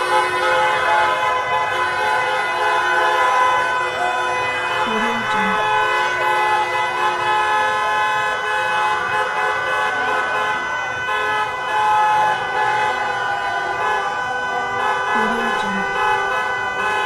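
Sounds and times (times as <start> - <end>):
car horns honking: 0.0 - 17.0
crowd cheering: 0.0 - 17.0.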